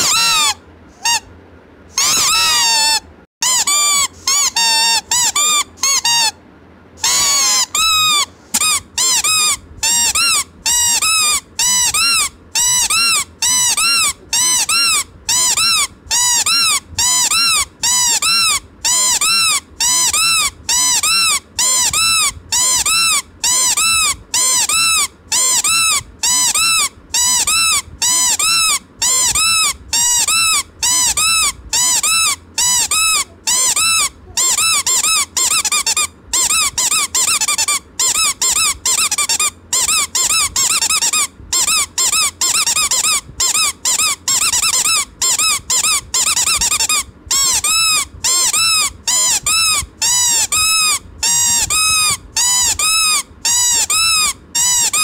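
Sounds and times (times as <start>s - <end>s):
squeeze toy squeaking: 0.0s - 1.3s, 1.9s - 6.4s, 7.0s - 55.0s.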